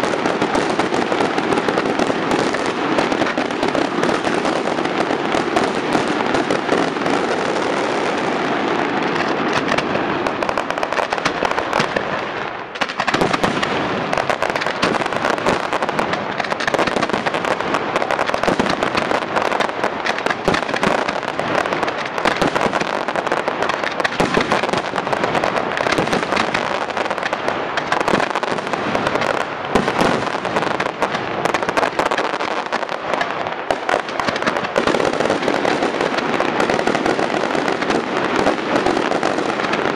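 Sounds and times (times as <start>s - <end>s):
crackling aerial fireworks bursts: 0.0s - 39.9s
firecracker bangs: 0.0s - 39.9s.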